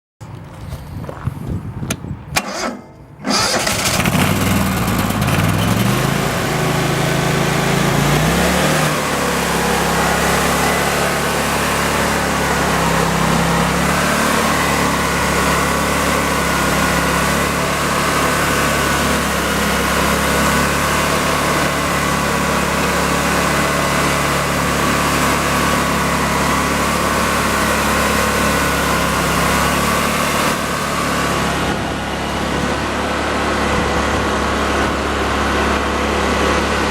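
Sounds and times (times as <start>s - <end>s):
stump grinder engine running: 2.4s - 36.9s.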